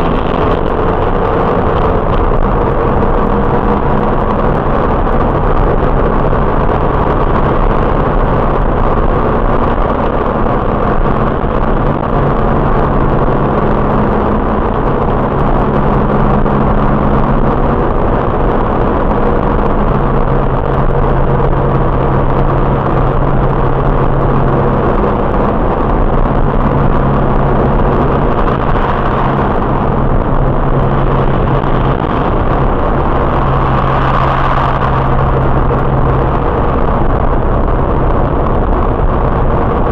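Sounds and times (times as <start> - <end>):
car engine hum: 0.0 - 39.9
road and tyre noise: 0.0 - 39.9.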